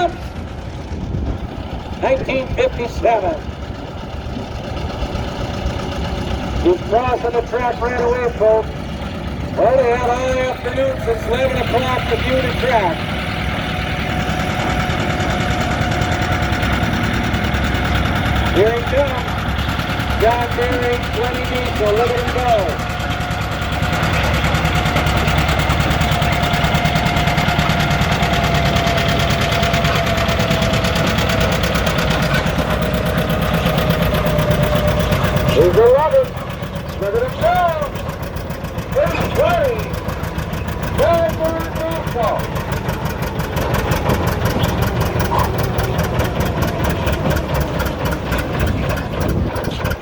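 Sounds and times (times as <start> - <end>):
tractor diesel exhaust popping: 0.0 - 50.0.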